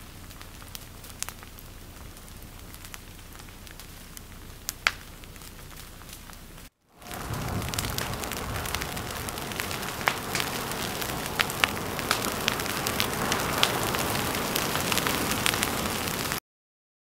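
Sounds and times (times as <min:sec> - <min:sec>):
fire hissing: 0:00.0 - 0:16.4
sharp cracks and pops of burning: 0:00.0 - 0:16.4.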